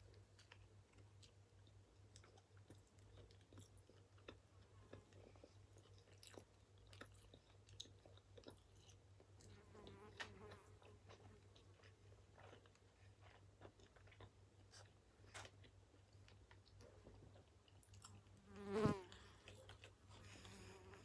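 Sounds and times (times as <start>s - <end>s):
chewing a burger: 0.0s - 18.4s, 19.1s - 21.0s.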